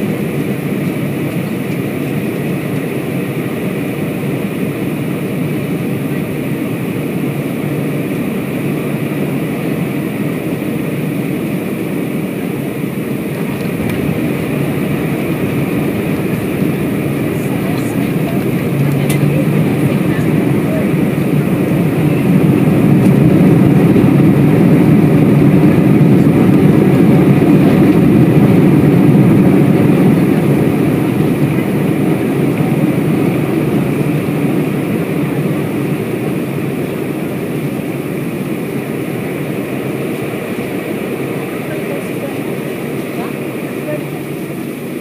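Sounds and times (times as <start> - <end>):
jet engines and wheels rumbling: 0.0 - 45.0.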